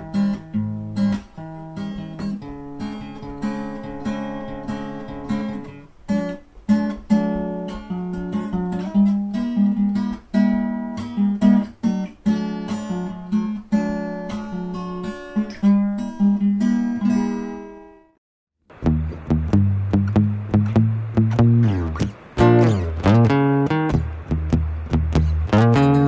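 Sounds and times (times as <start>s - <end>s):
acoustic guitar plucking and strumming: 0.0s - 26.0s.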